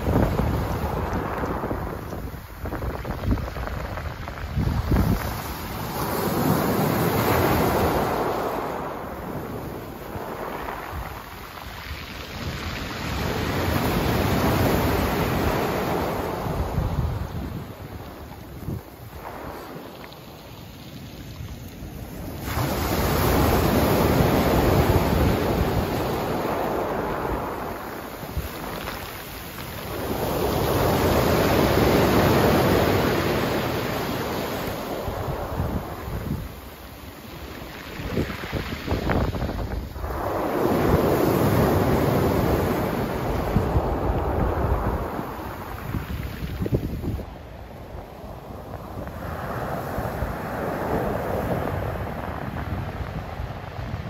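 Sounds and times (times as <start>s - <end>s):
waves washing over pebble beach: 0.0s - 54.0s.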